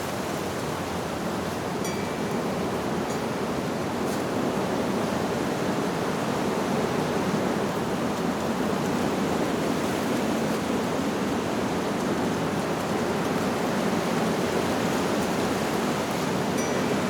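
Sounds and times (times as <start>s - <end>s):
wind blowing through leaves: 0.0s - 17.0s.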